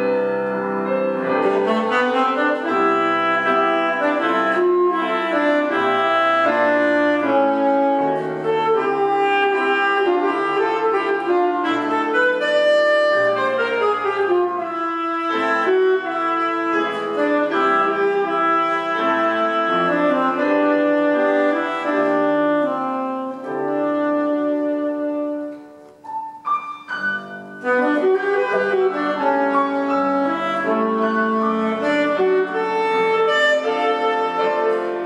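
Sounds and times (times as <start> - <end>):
alto saxophone melody: 0.0 - 35.0
piano accompaniment: 0.0 - 35.0.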